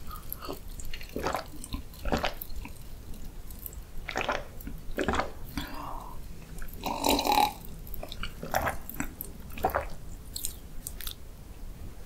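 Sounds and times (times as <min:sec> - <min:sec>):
gulping and swallowing water: 0:00.0 - 0:11.2.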